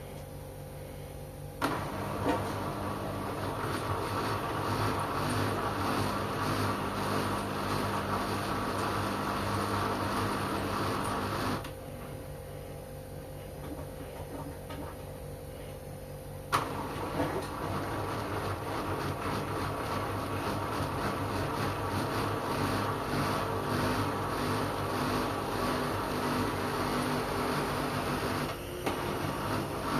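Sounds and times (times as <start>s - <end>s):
washing machine motor hum: 0.0s - 29.9s
washing machine rushing noise: 1.6s - 12.2s, 16.5s - 29.9s.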